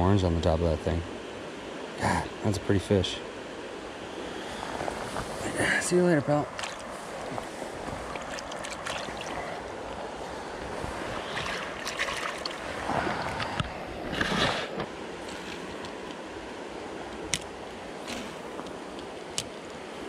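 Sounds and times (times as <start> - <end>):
stream running water: 0.0 - 20.0.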